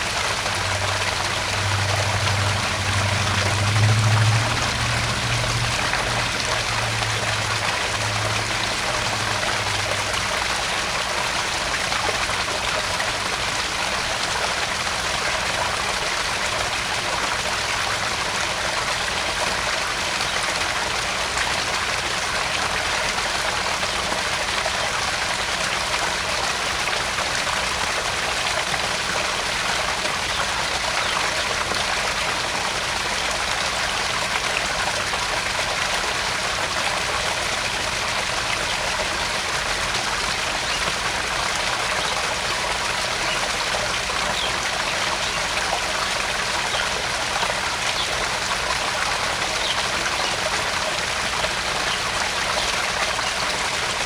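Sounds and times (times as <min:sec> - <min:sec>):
water splashing into pond: 0:00.0 - 0:54.0.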